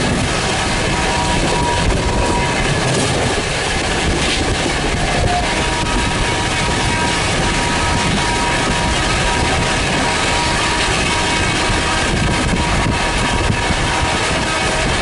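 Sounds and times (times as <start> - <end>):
train rushing past roar: 0.0 - 15.0
wheels clattering over rail joints: 0.0 - 15.0.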